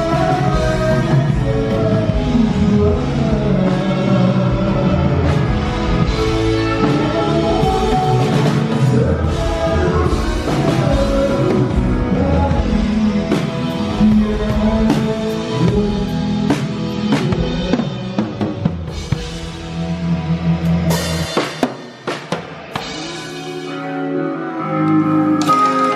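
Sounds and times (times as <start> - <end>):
person singing: 0.0 - 21.7, 22.6 - 25.9
drums: 0.0 - 25.9
guitar: 0.0 - 25.9.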